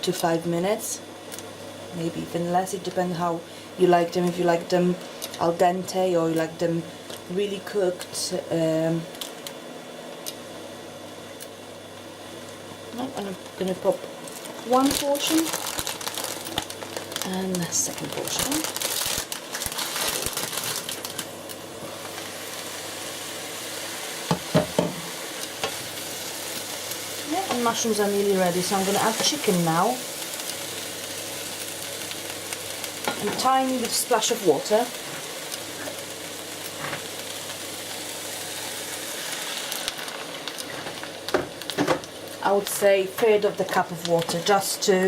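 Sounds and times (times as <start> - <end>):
mushrooms frying in a pan: 0.0 - 45.0
water boiling in a pot: 0.0 - 45.0.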